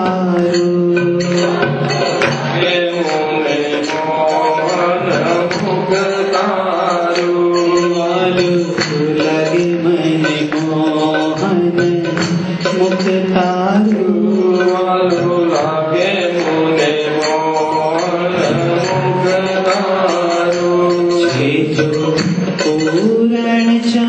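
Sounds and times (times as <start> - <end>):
hymn melody: 0.0 - 24.0.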